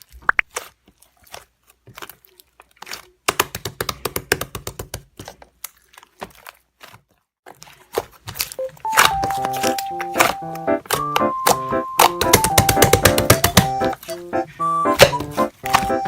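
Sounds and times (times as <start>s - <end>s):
slime squished by hand: 0.0s - 14.2s.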